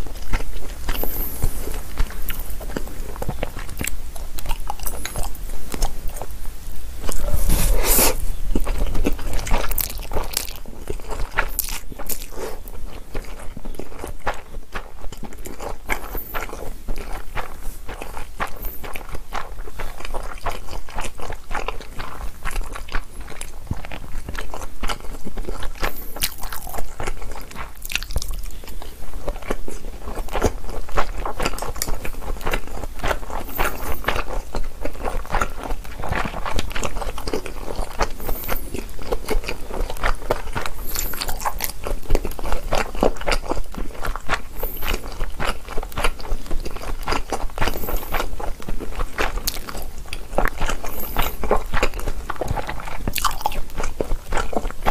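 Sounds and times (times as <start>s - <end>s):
person chewing noodles: 0.0s - 54.9s.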